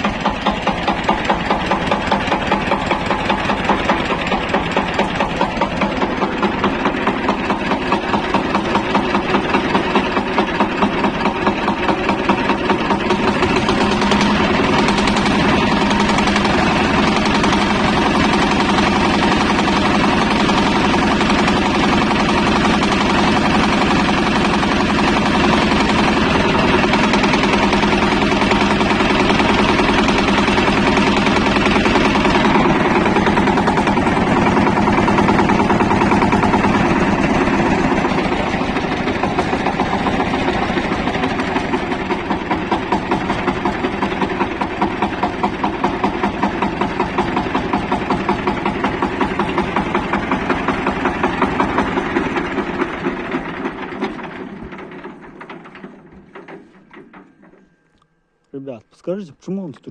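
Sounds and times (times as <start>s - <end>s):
engine running with a knock: 0.0s - 57.8s.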